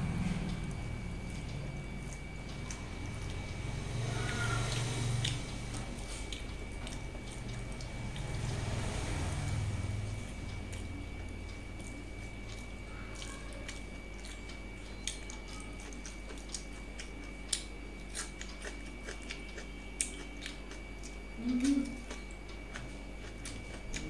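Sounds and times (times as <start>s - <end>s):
short low hum: 0.0s - 24.0s
chewing and lip smacks: 0.2s - 3.6s, 4.3s - 8.7s, 10.1s - 24.0s.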